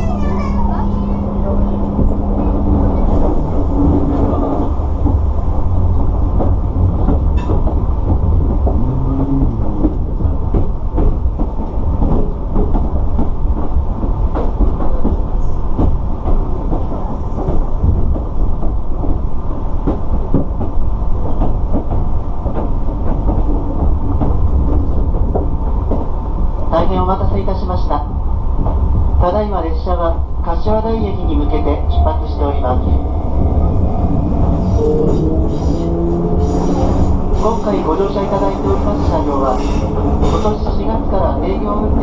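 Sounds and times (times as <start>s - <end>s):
electric train rumbling: 0.0s - 42.0s.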